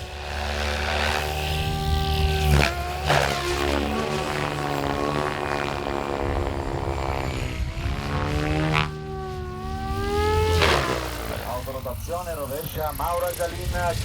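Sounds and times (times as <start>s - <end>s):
helicopter rotor whine: 0.0s - 14.0s.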